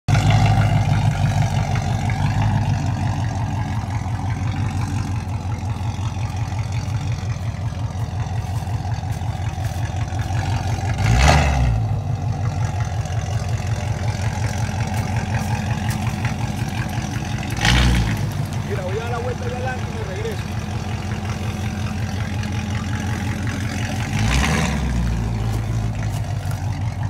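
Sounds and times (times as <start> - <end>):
truck engine running at low revs: 0.0 - 27.0.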